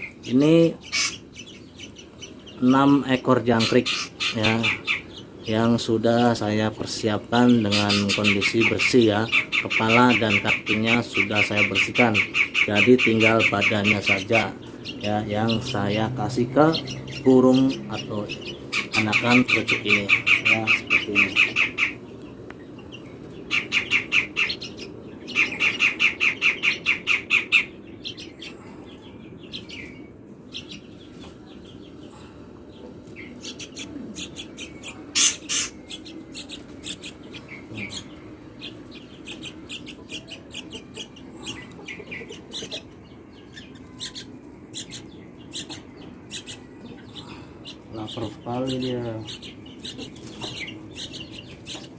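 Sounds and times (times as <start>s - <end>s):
nestlings chirping: 0.0s - 51.9s.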